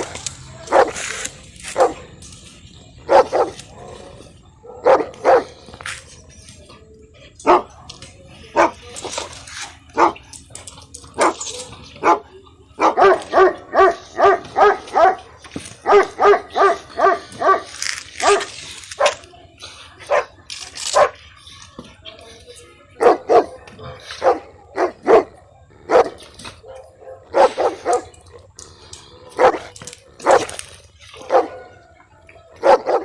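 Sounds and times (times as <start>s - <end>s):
dogs barking: 0.0s - 21.7s, 22.8s - 33.0s.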